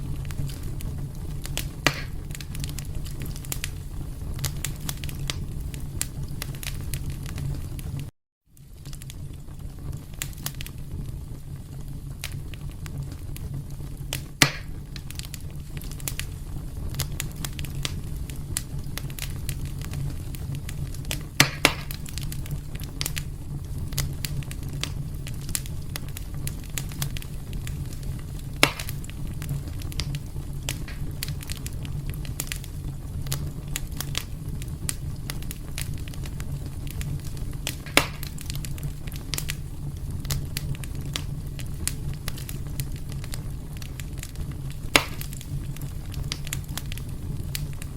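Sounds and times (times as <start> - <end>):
sharp fire pops: 0.0 - 47.9
wood fire crackling: 0.0 - 47.9.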